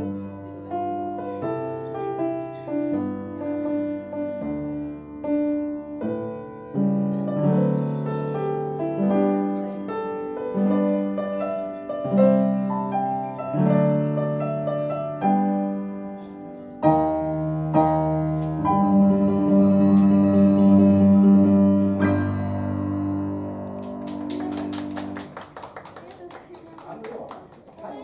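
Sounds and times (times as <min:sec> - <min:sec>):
piano playing chords: 0:00.0 - 0:25.4.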